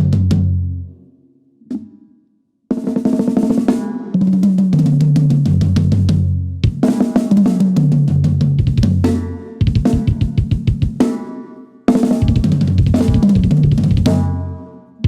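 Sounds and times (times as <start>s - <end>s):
drum kit fills: 0.0s - 0.7s, 2.7s - 15.0s.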